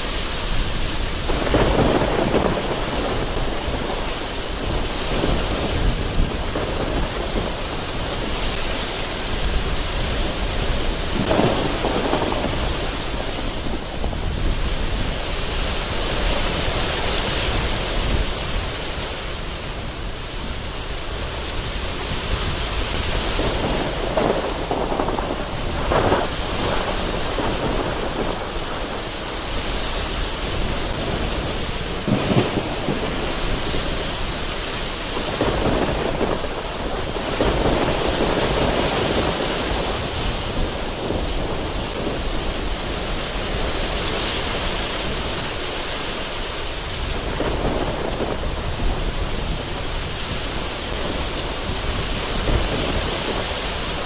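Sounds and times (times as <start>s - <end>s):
gusty wind: 0.0s - 54.0s
heavy rain pounding on window: 0.0s - 54.0s
thunder rumbling: 0.0s - 54.0s.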